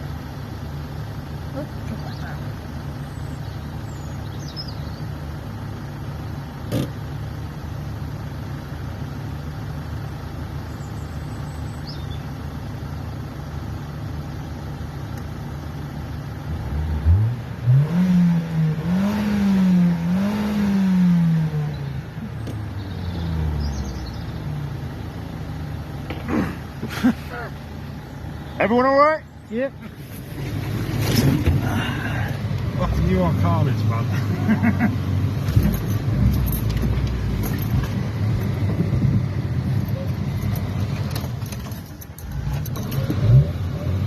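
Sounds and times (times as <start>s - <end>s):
engine idling and revving: 0.0s - 44.0s.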